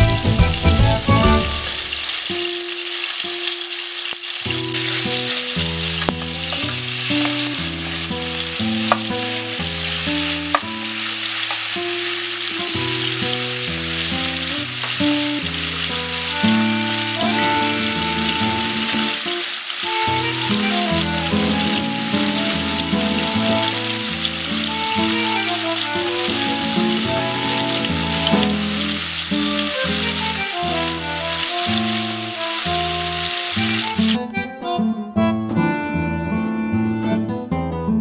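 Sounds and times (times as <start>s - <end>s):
background music with melody: 0.0s - 2.7s, 4.6s - 38.0s
chicken sizzling in hot oil: 0.0s - 34.2s.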